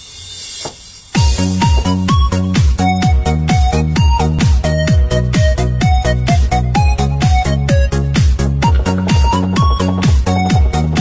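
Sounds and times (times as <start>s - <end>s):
electronic dance music: 1.1s - 11.0s.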